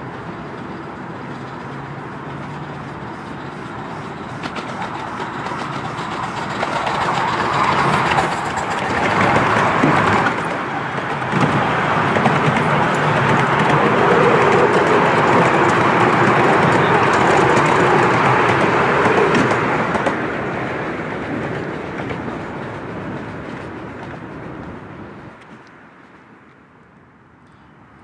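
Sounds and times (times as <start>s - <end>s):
miniature steam locomotive running: 0.0s - 25.1s
carriages rolling by: 0.0s - 26.4s.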